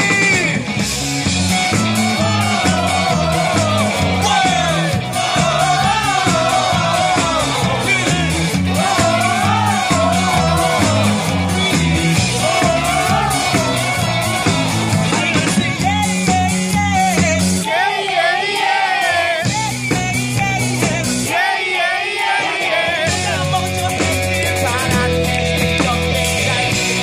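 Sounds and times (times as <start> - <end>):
live rock band playing: 0.0 - 17.6, 19.4 - 21.3, 23.0 - 27.0
man singing: 1.6 - 17.8, 19.4 - 21.4, 23.0 - 27.0.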